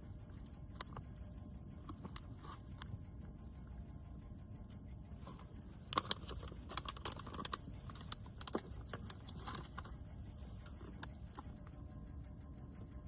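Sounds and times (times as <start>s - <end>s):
steady low rumble: 0.0s - 13.0s
light clicks and taps: 0.1s - 13.0s.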